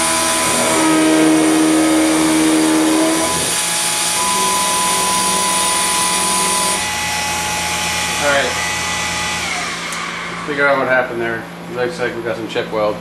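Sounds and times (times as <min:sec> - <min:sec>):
milling machine cutting metal: 0:00.0 - 0:11.7.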